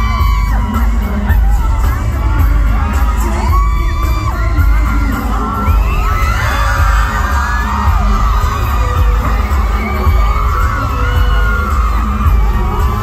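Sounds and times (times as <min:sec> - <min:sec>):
crowd screaming and cheering: 0:00.0 - 0:13.0
live pop music: 0:00.0 - 0:13.0.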